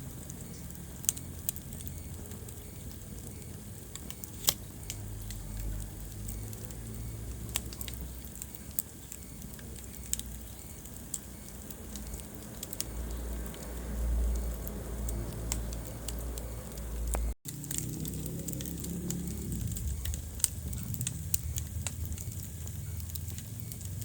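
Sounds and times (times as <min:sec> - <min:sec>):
low rumble of flames: 0:00.0 - 0:24.0
wood fire crackling: 0:00.0 - 0:24.0.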